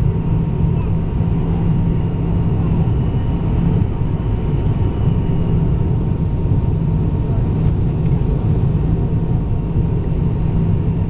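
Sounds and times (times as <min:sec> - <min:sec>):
airliner cabin rumble: 0:00.0 - 0:11.0
faint steady whine: 0:00.0 - 0:11.0.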